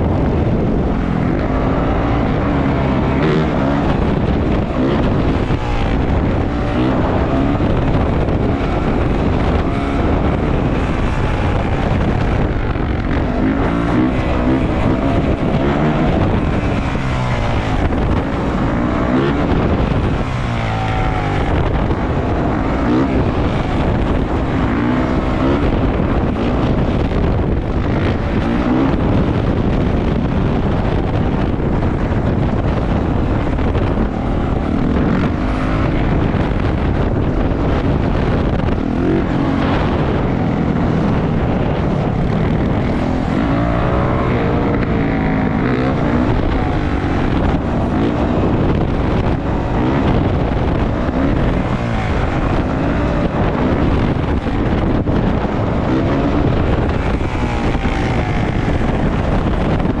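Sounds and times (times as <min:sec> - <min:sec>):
dirt bike engine revving: 0:00.0 - 1:00.0
wind buffeting microphone: 0:00.0 - 1:00.0.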